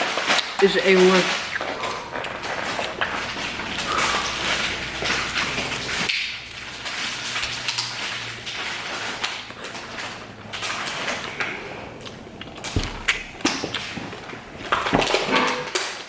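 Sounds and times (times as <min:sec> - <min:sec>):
chewing with wet mouth noises: 0:00.0 - 0:15.3.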